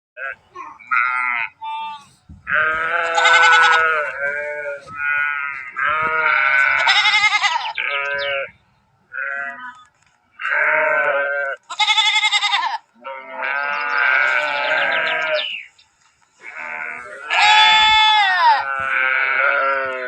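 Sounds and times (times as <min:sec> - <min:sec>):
sheep bleating: 0:00.2 - 0:15.7, 0:16.4 - 0:20.0.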